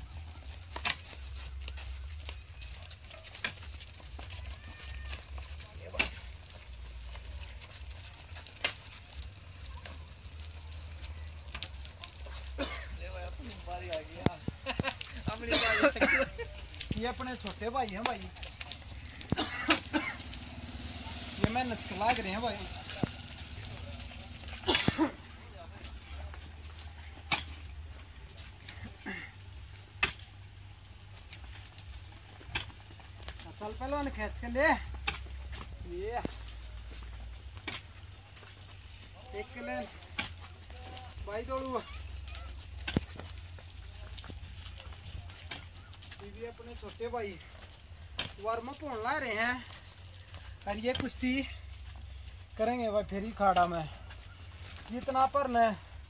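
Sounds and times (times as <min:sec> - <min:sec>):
clods crumbling: 0:00.0 - 0:56.0.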